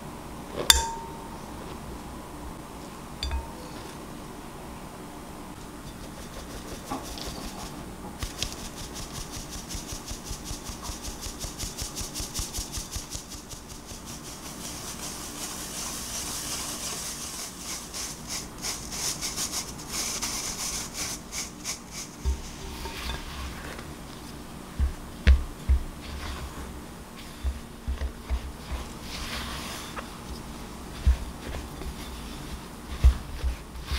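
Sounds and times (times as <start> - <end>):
spatula stirring flour in bowl: 5.9 - 33.9
mesh sieve rasping: 6.0 - 33.9.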